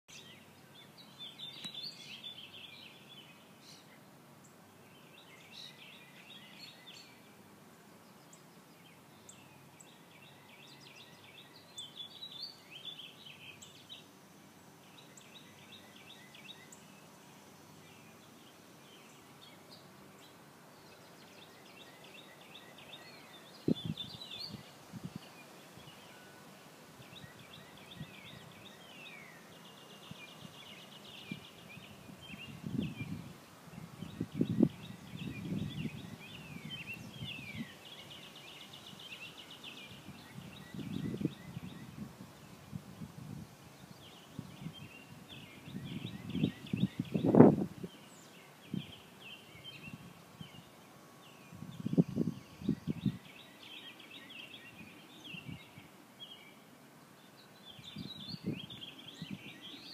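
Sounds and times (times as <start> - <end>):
songbirds chirping: 0.1 - 59.9.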